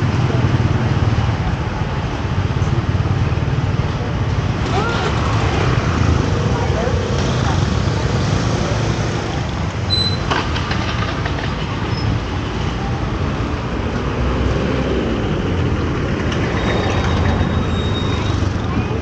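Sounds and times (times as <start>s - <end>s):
road noise: 0.0s - 19.0s
scooter and car engines: 0.0s - 19.0s.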